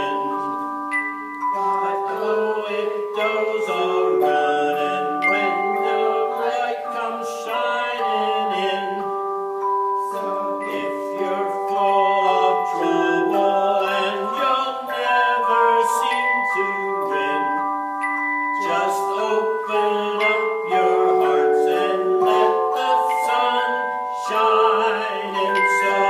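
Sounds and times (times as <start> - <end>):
tone chimes melody: 0.0 - 26.0.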